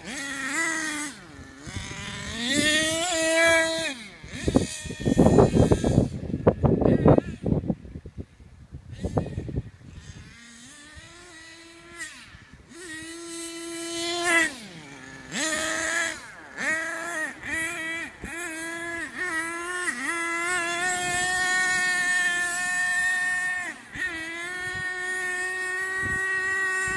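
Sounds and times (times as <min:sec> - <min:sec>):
toy truck motor buzzing: 0:00.0 - 0:07.7, 0:08.9 - 0:26.9.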